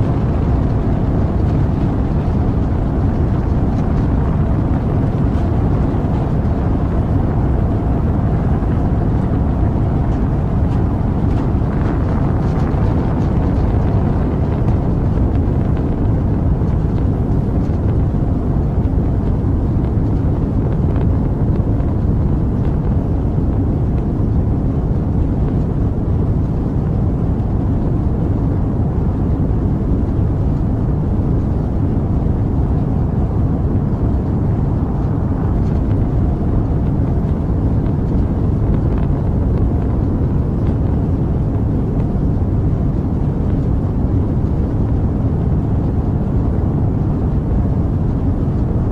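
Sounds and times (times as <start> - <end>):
rocket engine roar: 0.0 - 48.9.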